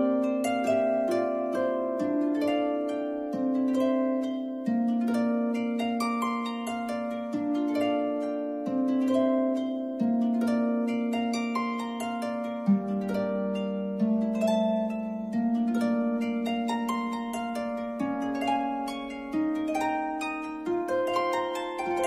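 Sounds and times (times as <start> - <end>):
plucked harp-like melody: 0.0 - 22.0.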